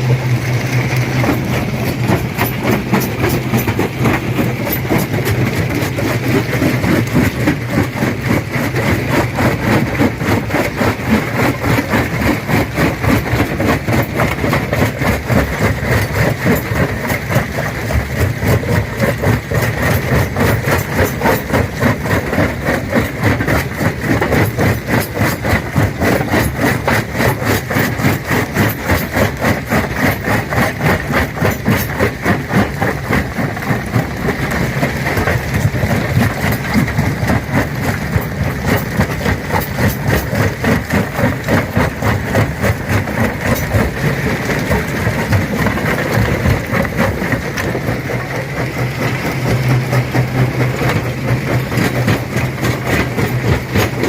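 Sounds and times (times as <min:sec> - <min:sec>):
stone crusher crushing rock: 0:00.0 - 0:54.0.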